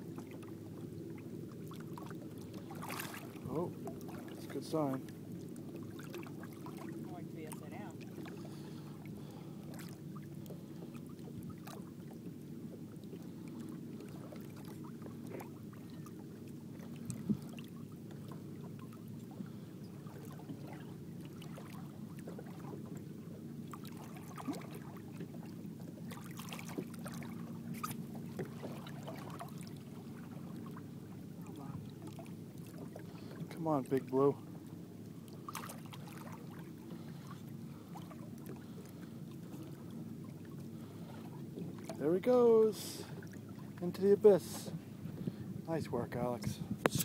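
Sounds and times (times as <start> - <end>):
boat engine idling: 0.0 - 47.0.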